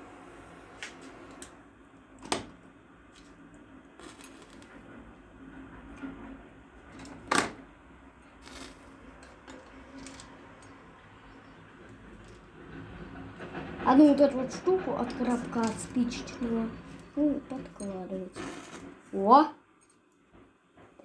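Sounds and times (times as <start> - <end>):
fire crackling and popping: 0.8 - 19.1.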